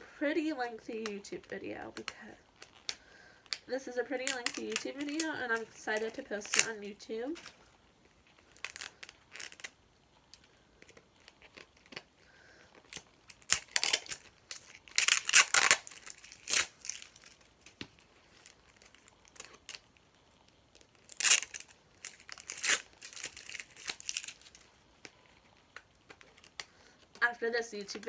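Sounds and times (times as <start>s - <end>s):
plastic wrapping crinkling and tearing: 0.9s - 28.0s.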